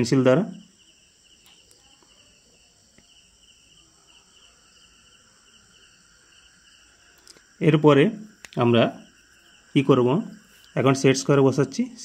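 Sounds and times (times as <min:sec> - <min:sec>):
faint high-pitched chirping: 0:00.0 - 0:12.0.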